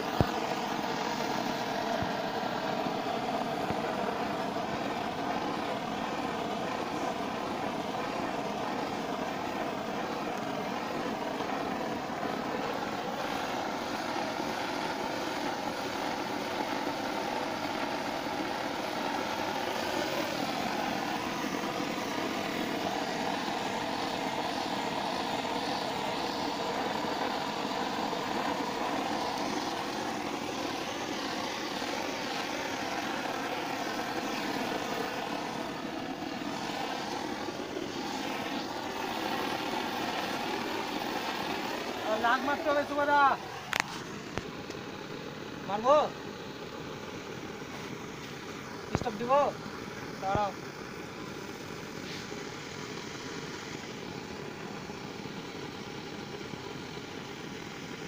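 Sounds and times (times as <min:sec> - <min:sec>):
gas blowtorch burning: 0:00.0 - 0:58.0.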